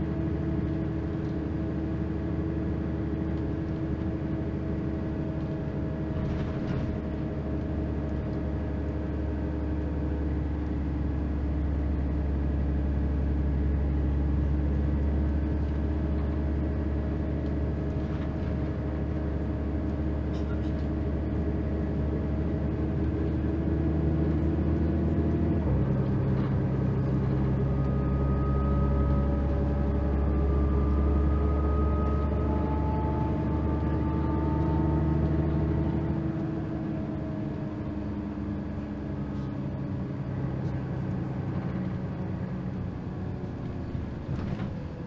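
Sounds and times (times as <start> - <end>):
bus diesel engine: 0.0 - 45.0.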